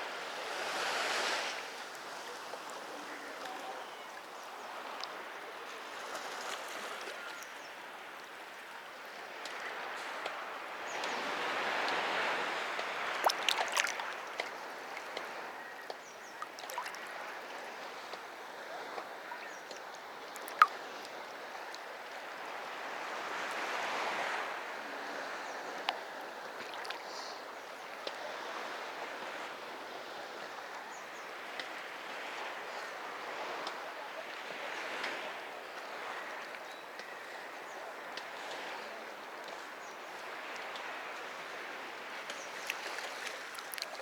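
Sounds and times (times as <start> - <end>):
sea waves washing on beach: 0.0 - 44.0.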